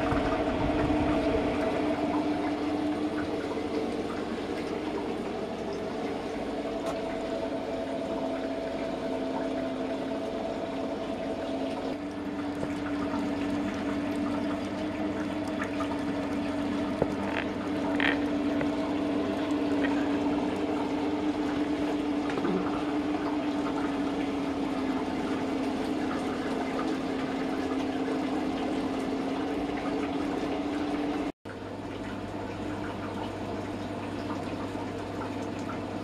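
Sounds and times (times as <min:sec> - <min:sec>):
liquid trickling into funnel: 0:00.0 - 0:36.0
steady low hum: 0:00.0 - 0:36.0.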